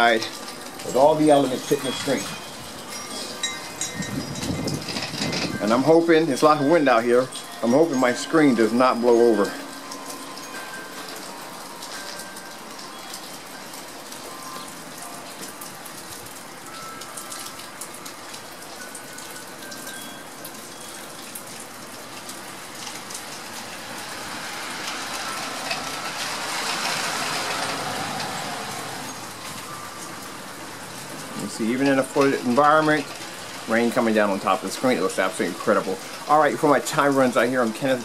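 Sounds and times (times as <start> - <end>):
rain falling and dripping: 0.0 - 38.0.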